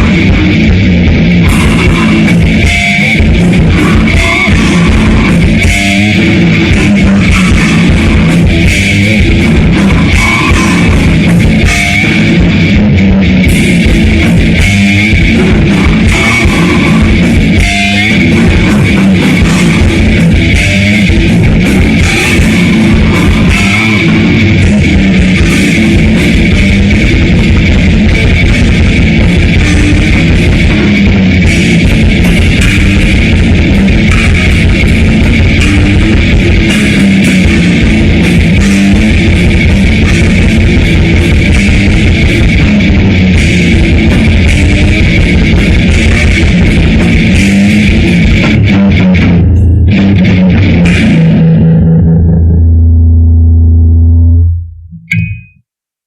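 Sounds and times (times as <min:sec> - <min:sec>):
metal band playing loud: 0:00.0 - 0:53.4, 0:55.0 - 0:55.5.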